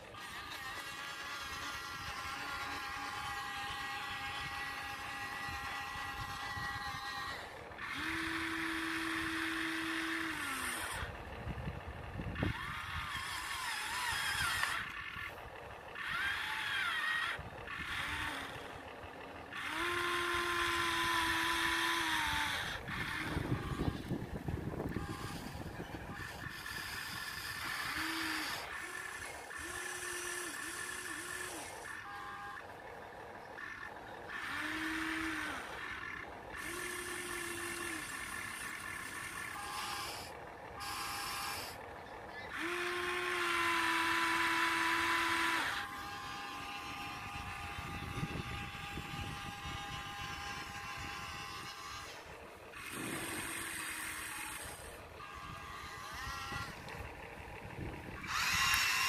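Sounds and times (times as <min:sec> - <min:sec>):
small electric motors whining: 0:00.0 - 0:59.0.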